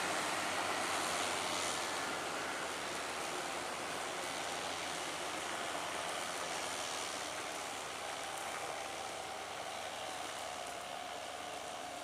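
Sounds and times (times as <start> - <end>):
tractor running under load: 0.0 - 12.0.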